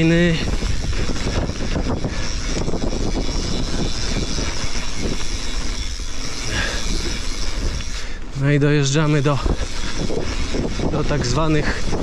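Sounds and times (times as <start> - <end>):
bike rattling: 0.0 - 12.0
wind rumble on microphone: 0.0 - 12.0.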